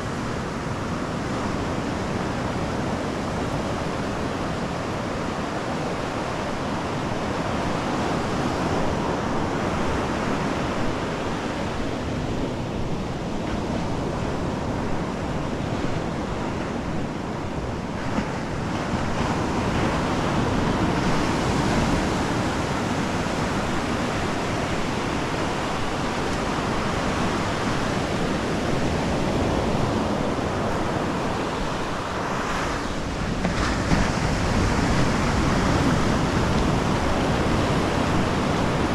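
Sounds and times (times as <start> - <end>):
surf breaking on beach: 0.0 - 38.9.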